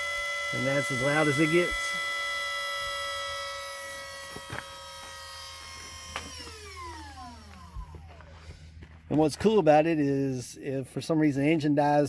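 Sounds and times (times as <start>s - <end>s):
electric pump whine: 0.0s - 10.7s.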